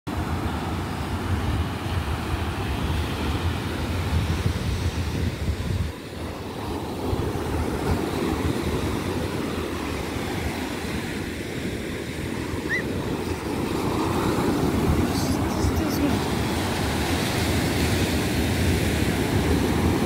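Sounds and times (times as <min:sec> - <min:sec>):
surf breaking on beach: 0:00.1 - 0:20.0
wind buffeting microphone: 0:00.5 - 0:20.0.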